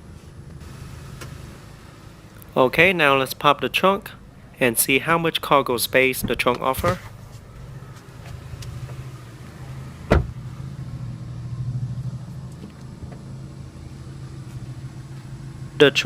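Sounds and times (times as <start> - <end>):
car humming: 0.0 - 16.0.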